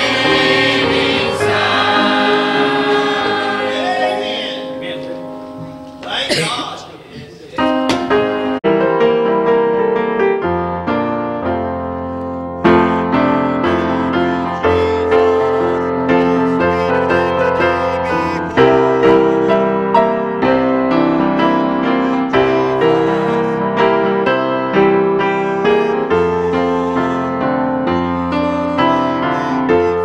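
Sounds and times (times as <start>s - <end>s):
piano playing slow chords: 0.0s - 6.4s, 7.6s - 30.0s.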